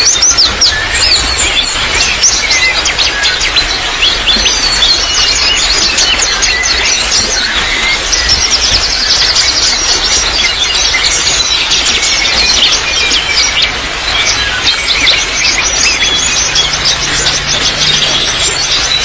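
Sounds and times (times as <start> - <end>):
small birds chirping: 0.0 - 19.0
trickle of running water: 0.0 - 19.0.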